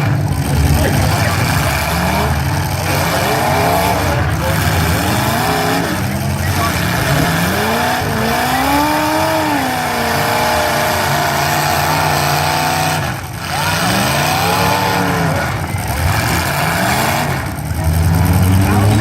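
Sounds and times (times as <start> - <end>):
car engines revving: 0.0 - 19.0
steady mechanical din: 0.0 - 19.0.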